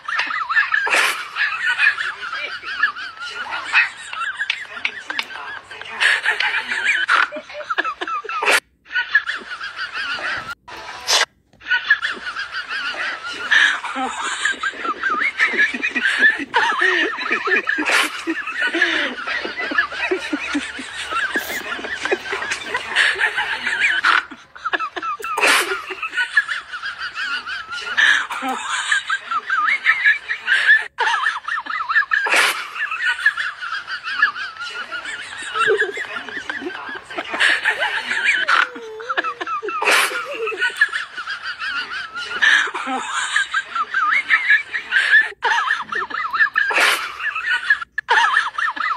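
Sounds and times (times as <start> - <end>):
high-pitched giggling: 0.0 - 48.9.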